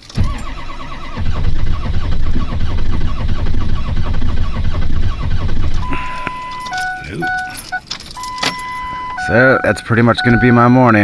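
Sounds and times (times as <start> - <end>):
starter cranking diesel engine: 0.0 - 10.7.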